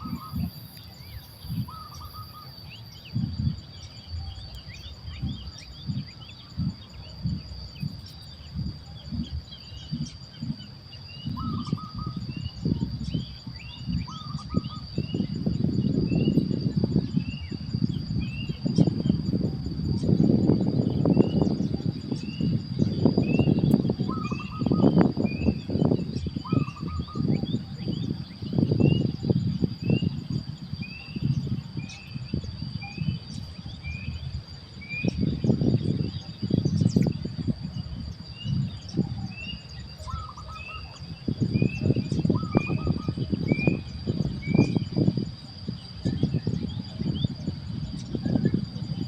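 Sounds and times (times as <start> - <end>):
high insect whine: 0.0 - 49.0
small birds chirping: 0.0 - 49.0.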